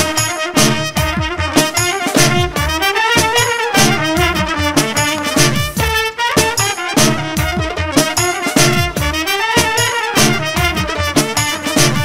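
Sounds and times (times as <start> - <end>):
bass line: 0.0 - 12.0
brass band music: 0.0 - 12.0
steady drum beat: 0.0 - 12.0.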